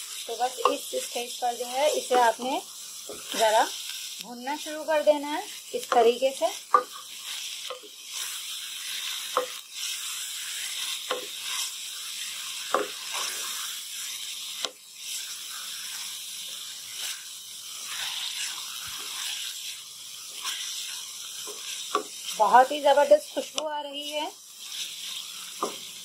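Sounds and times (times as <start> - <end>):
food sizzling in metal pan: 0.0 - 26.0
wooden spatula scraping pan: 0.1 - 4.2, 5.0 - 26.0.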